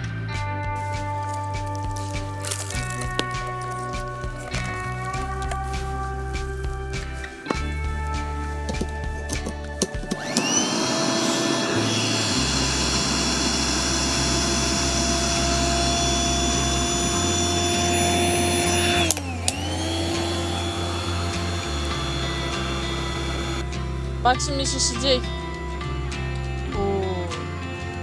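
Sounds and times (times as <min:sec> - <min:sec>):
electric air pump whining: 0:01.5 - 0:24.1.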